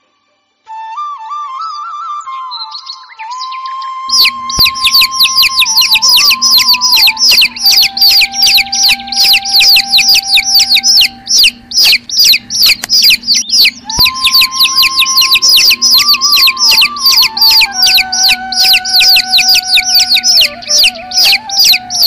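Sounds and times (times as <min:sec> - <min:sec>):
baby chicks peeping: 0:02.7 - 0:22.0.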